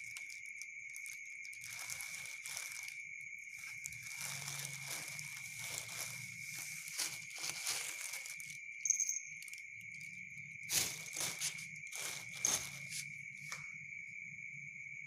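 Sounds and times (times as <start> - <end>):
plastic bag crinkling: 0.0 - 13.6
cricket trill: 0.0 - 15.0.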